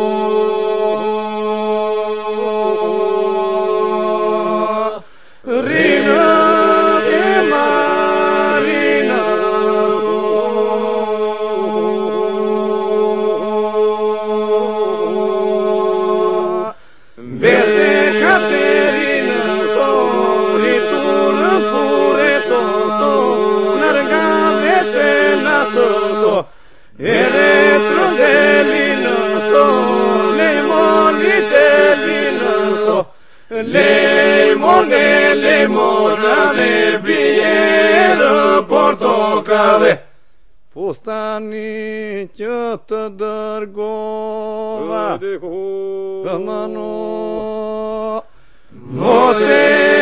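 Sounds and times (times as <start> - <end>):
vocal group singing a cappella: 0.0 - 40.2, 40.8 - 50.0.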